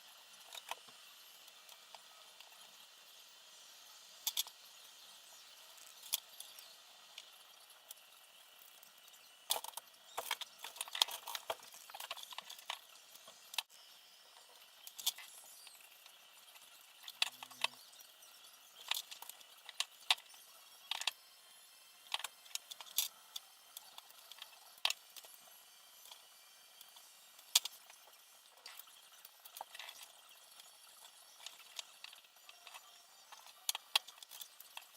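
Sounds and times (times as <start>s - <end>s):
small hard parts clicking and rattling: 0.1s - 34.9s.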